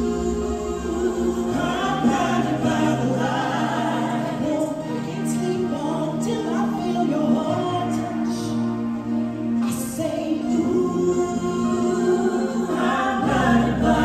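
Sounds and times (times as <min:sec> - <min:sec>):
stage show music with singing: 0:00.0 - 0:14.0.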